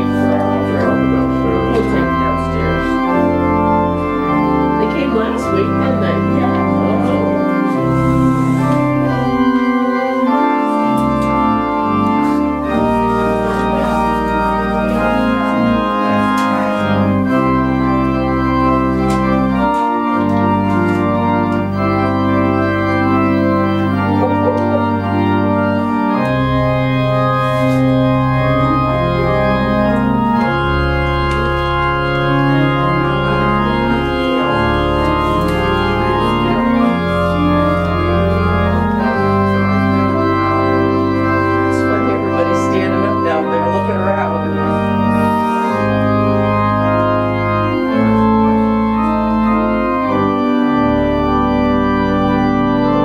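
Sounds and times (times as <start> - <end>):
organ playing sustained chords: 0.0 - 53.0.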